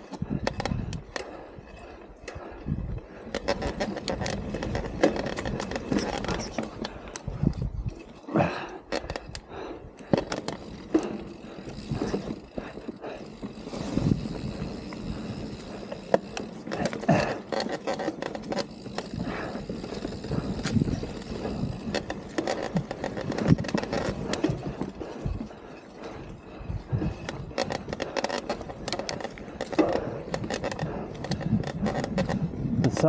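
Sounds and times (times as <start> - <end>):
bike clicks and rattles: 0.0 - 33.0
bike tyres crunching on dirt: 2.4 - 9.3, 10.1 - 33.0.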